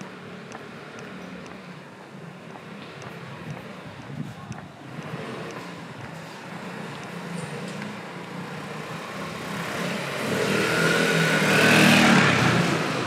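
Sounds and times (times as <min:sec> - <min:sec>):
vehicle passing: 0:00.0 - 0:13.0.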